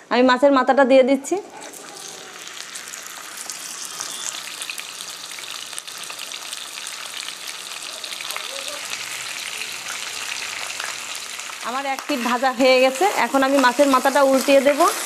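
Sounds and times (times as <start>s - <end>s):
fish sizzling in hot oil: 1.7s - 15.0s.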